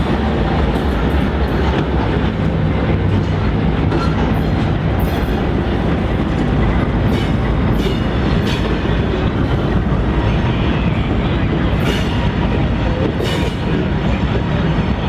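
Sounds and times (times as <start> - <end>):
diesel locomotive engine running: 0.0 - 15.0
train wheels rolling over rails: 0.0 - 15.0.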